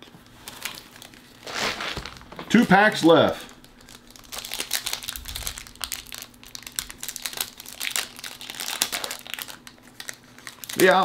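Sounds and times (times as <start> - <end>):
plastic wrapper crinkling: 0.1 - 11.0.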